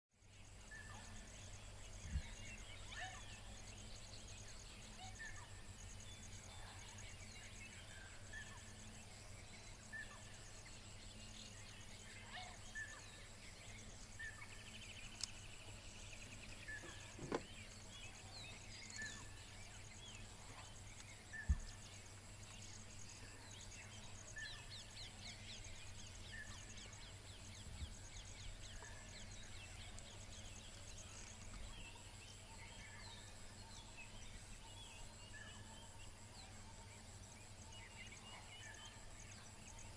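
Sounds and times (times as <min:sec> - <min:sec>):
birds chirping: 0:00.2 - 0:39.9
insect pulsing drone: 0:00.2 - 0:39.9
low steady hum: 0:00.2 - 0:39.9.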